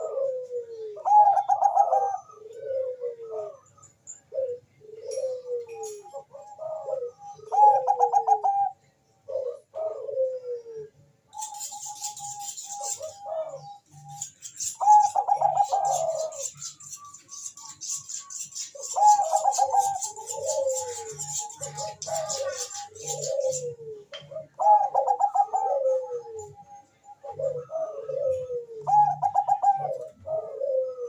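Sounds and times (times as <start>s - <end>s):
dove cooing and trilling: 0.0s - 31.0s.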